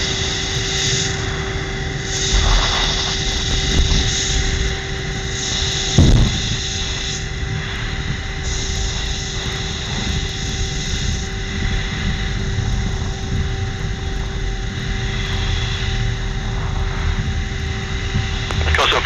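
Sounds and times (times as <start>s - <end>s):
jet engine roar: 0.0s - 19.0s
steady whines: 0.0s - 19.0s.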